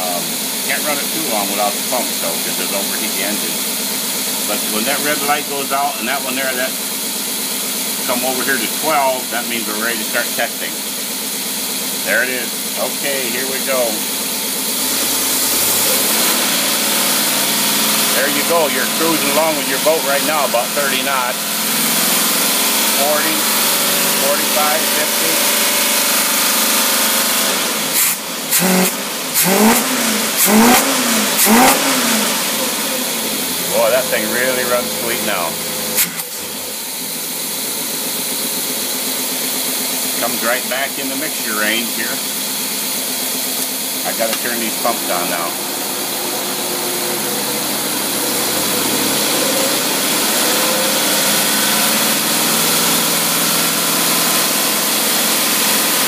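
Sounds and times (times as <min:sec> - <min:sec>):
boat engine running at high revs: 0:00.0 - 0:38.0, 0:38.6 - 0:56.0
cooling water pumps hissing: 0:00.0 - 0:56.0.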